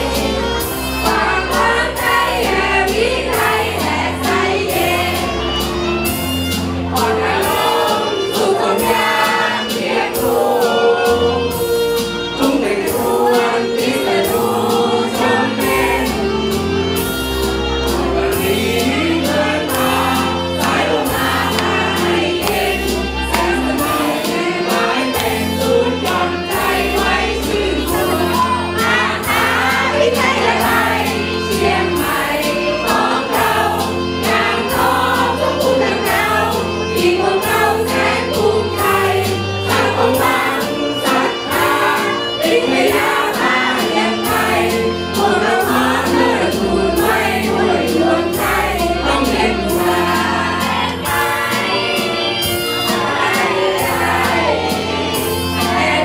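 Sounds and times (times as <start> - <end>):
choral music over a beat: 0.0 - 56.0.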